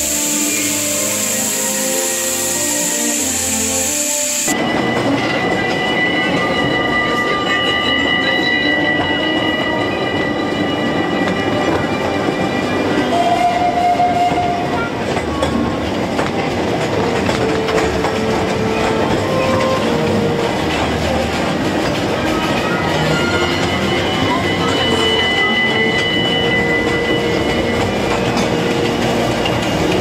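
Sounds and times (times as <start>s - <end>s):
train carriages rattling on track: 0.0s - 30.0s.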